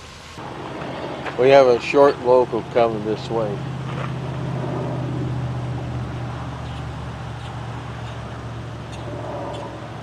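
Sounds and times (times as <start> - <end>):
low engine hum: 0.4 - 10.0.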